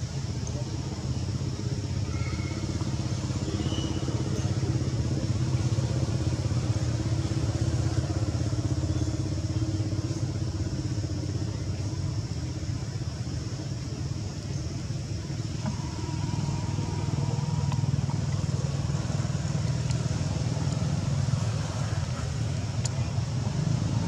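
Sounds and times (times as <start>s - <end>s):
engine rumble: 0.0s - 24.0s.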